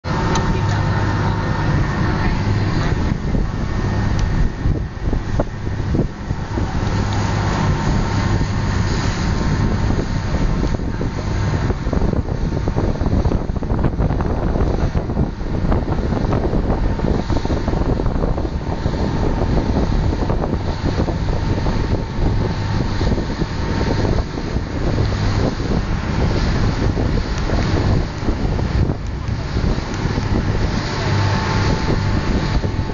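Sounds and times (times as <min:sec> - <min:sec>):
motorboat engine droning: 0:00.0 - 0:32.9
wind buffeting microphone: 0:00.0 - 0:32.9.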